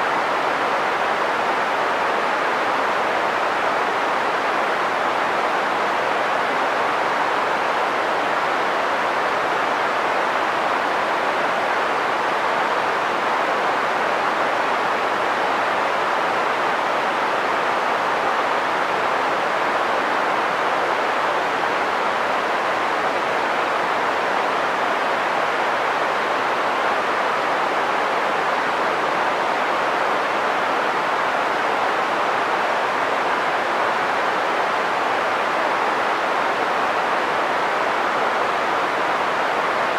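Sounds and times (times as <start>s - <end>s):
steady green noise hiss: 0.0s - 39.9s.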